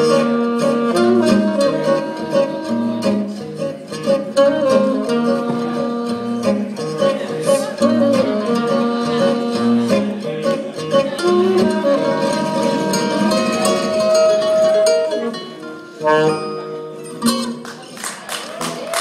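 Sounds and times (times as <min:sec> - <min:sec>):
saxophone long note: 0:00.0 - 0:03.6, 0:04.3 - 0:16.9
acoustic guitar chords: 0:00.0 - 0:17.9.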